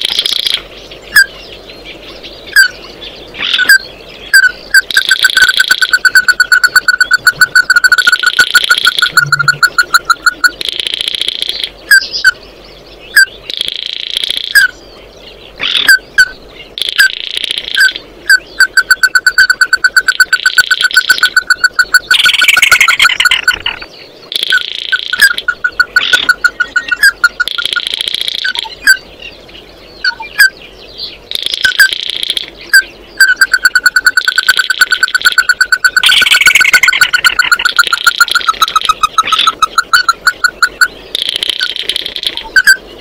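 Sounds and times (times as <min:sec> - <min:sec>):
bird calls: 0:00.0 - 0:43.0
bird chattering: 0:00.0 - 0:43.0.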